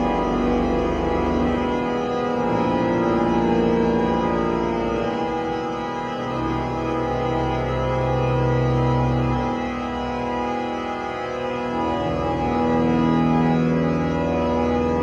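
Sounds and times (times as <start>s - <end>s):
deep organ pedal bass: 0.0s - 15.0s
pipe organ chords: 0.0s - 15.0s.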